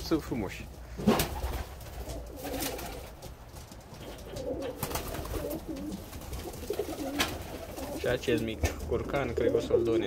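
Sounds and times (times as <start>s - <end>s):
pigeons cooing: 0.8s - 3.2s, 3.9s - 10.0s.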